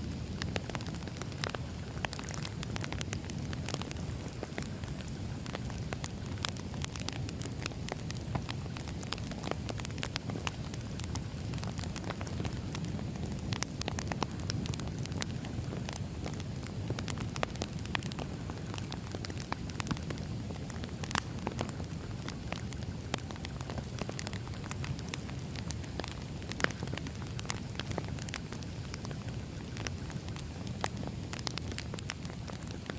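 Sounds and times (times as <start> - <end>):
wood fire crackling: 0.0 - 32.9
sharp pops and snaps: 0.2 - 32.9.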